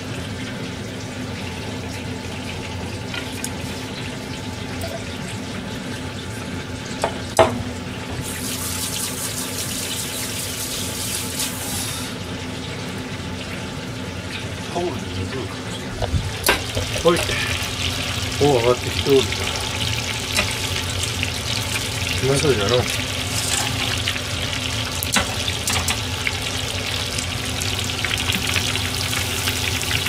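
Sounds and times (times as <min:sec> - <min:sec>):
low hum and hiss: 0:00.0 - 0:30.0
water tap running: 0:00.0 - 0:30.0.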